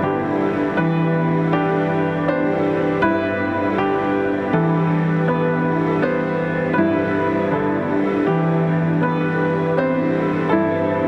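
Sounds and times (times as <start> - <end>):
calm background music: 0.0 - 11.0.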